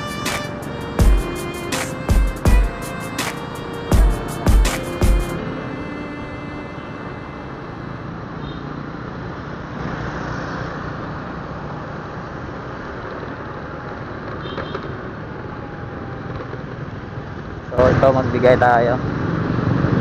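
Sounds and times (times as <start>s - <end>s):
road and traffic noise: 0.0s - 20.0s.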